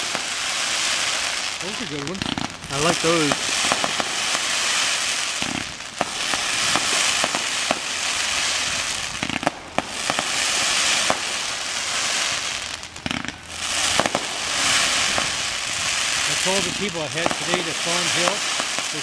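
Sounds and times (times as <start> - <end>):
firework bangs: 0.0 - 19.0
fireworks crackling: 0.0 - 19.0.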